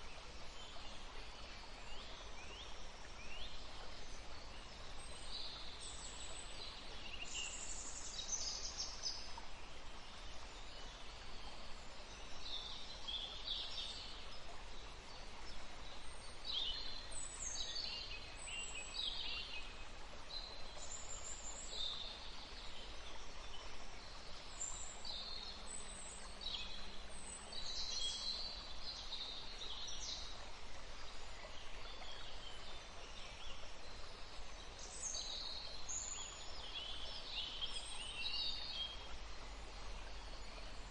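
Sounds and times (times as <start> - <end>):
forest stream running: 0.0 - 40.9
songbirds singing: 0.0 - 40.9.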